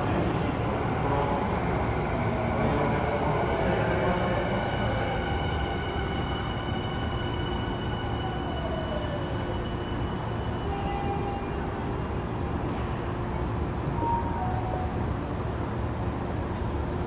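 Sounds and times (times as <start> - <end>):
train rail and wheel rumble: 0.0 - 17.0.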